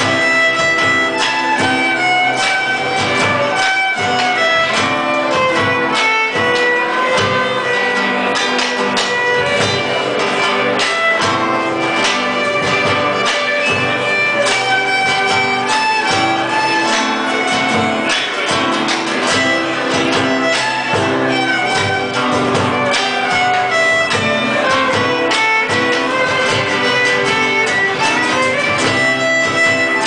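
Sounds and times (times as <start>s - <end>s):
acoustic guitar chords: 0.0s - 30.0s
bowed violin melody: 0.0s - 30.0s.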